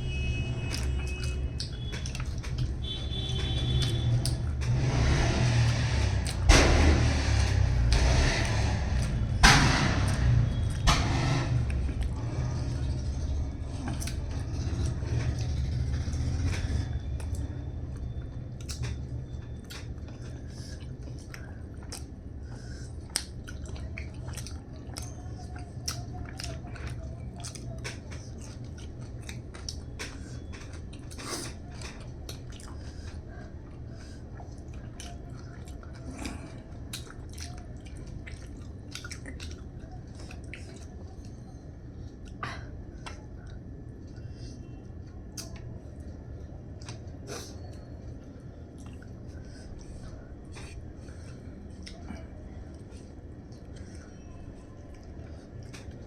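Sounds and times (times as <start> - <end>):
low steady hum: 0.0 - 56.0
person chewing food: 0.1 - 4.8, 10.0 - 56.0.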